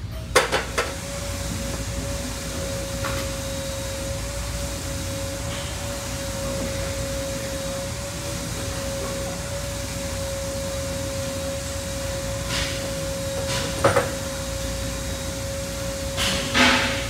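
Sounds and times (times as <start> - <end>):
air-handling hum: 0.0 - 17.0
constant whine: 0.0 - 17.0.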